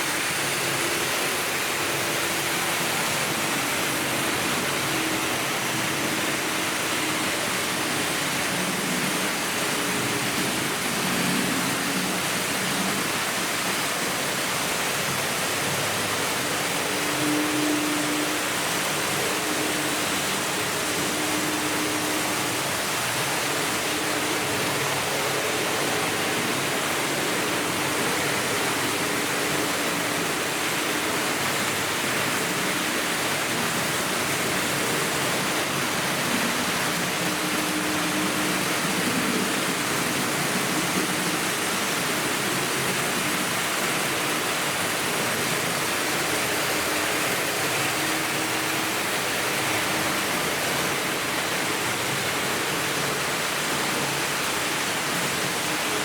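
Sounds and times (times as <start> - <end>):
model train wheels rushing on track: 0.0 - 56.0.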